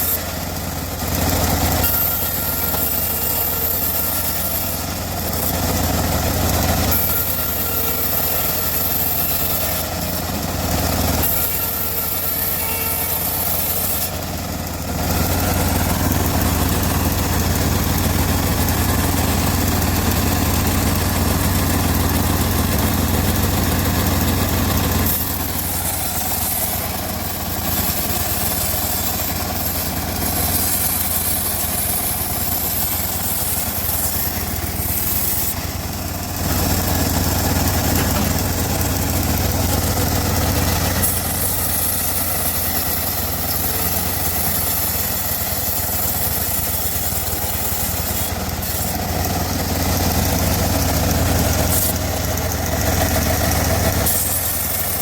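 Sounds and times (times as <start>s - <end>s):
bandsaw mill running: 0.0s - 55.0s.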